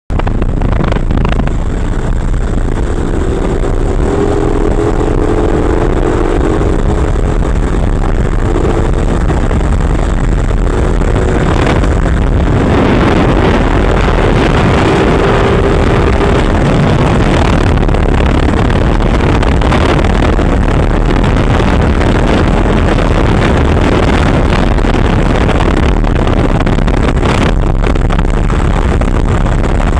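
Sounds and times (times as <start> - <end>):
motorcycle engine running: 0.1 - 29.9
wind rumble on microphone: 0.1 - 29.9.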